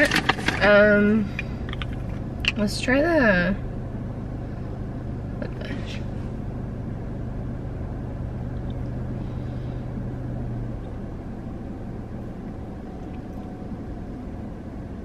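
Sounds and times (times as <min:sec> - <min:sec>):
car cabin engine idling hum: 0:00.0 - 0:15.0
low droning tone: 0:00.0 - 0:15.0.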